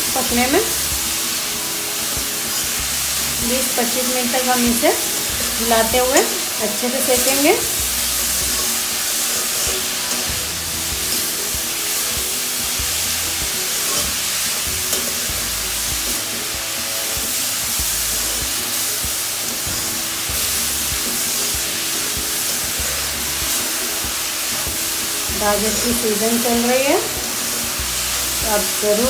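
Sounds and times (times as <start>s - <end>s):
background music with a beat: 0.0s - 29.0s
carrots sizzling in hot fat: 0.0s - 29.0s
spatula stirring in a pan: 0.0s - 29.0s.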